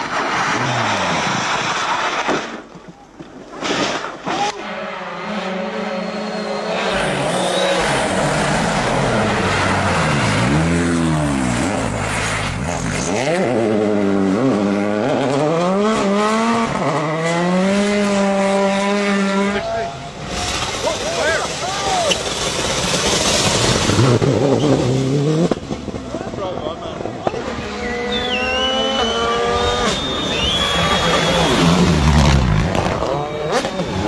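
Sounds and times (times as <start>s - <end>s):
rally car engine at full throttle: 4.1s - 34.0s.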